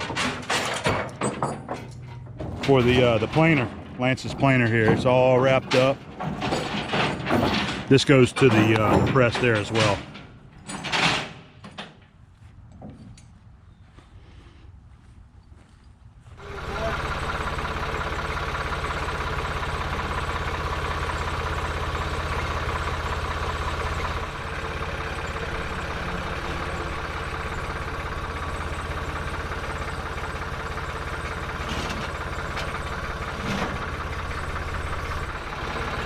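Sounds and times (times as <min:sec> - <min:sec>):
heavy machine engine idling: 0:00.0 - 0:10.5, 0:16.2 - 0:36.0.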